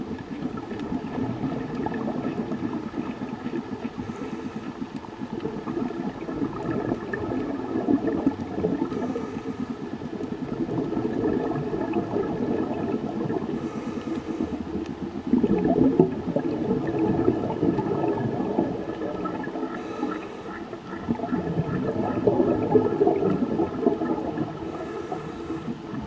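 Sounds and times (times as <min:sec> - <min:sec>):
muffled underwater water rush: 0:00.0 - 0:26.0
water gurgling and bubbling: 0:00.0 - 0:26.0.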